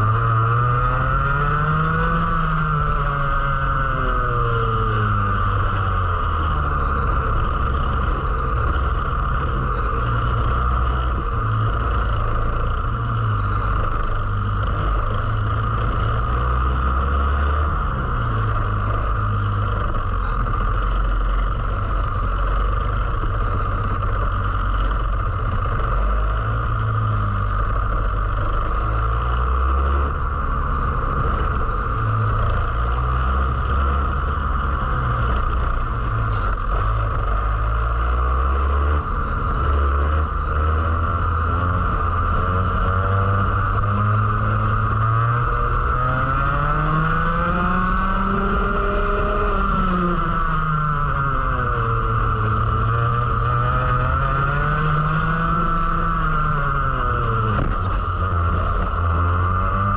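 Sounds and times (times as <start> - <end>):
two-stroke kart engine revving: 6.8 - 33.0, 33.6 - 59.9.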